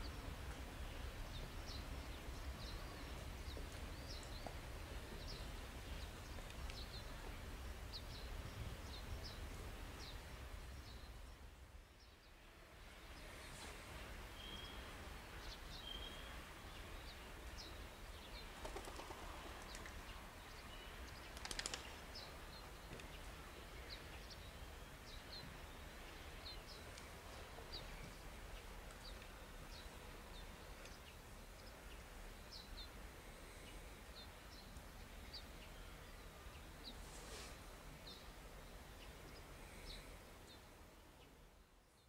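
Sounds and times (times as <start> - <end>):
small birds chirping: 0.0 - 12.3, 14.3 - 42.0.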